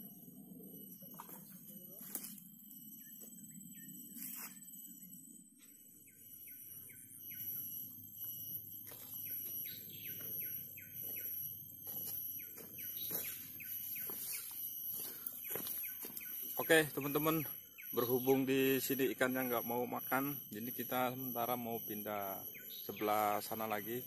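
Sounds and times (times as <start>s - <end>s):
bird chirping: 0.0s - 24.0s
steady high-pitched whine: 0.0s - 24.0s.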